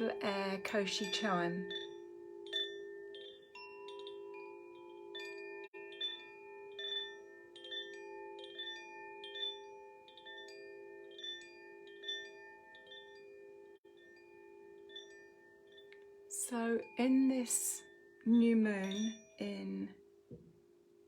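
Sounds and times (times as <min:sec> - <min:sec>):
low steady ringing tone: 0:00.0 - 0:21.0
wind chime tinkling: 0:00.0 - 0:21.0.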